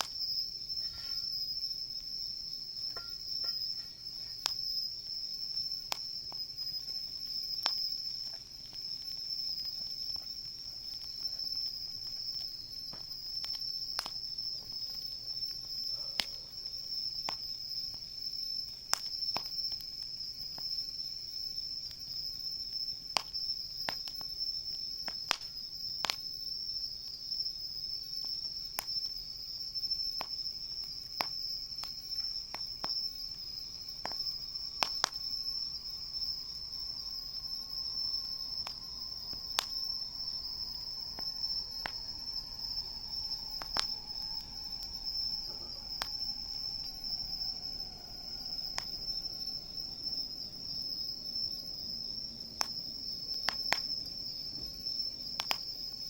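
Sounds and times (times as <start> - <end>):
campfire crackling and popping: 0.0 - 56.0
insects trilling: 0.0 - 56.0.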